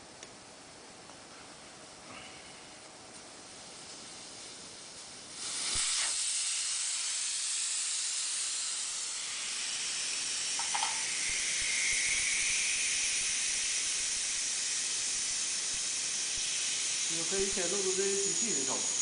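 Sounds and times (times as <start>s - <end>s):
compressed air hissing: 3.4s - 19.0s.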